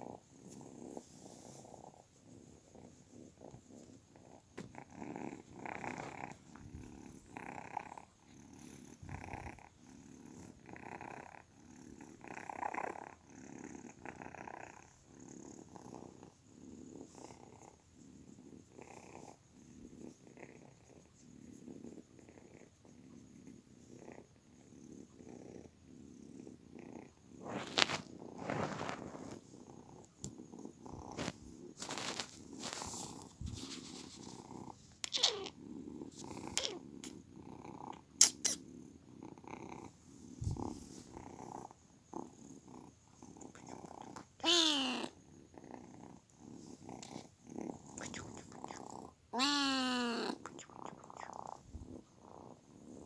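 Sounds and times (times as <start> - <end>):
kitten purring: 0.0 - 53.0.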